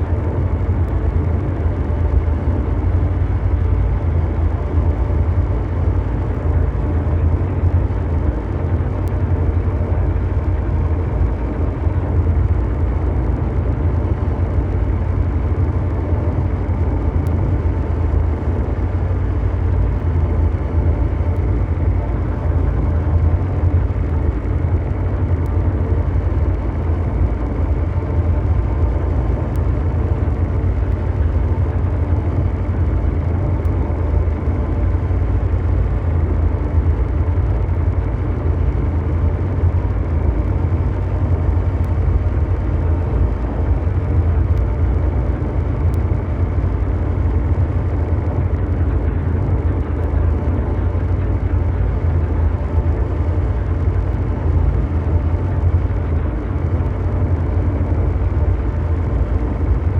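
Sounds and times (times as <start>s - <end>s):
mechanical drone: 0.0s - 59.9s.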